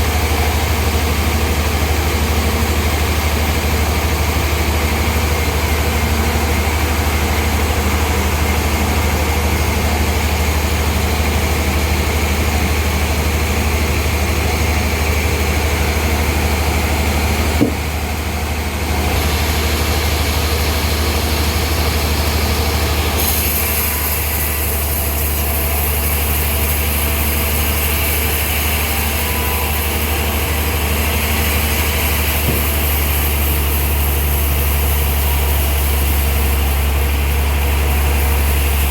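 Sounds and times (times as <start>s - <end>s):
engine humming: 0.0s - 38.9s.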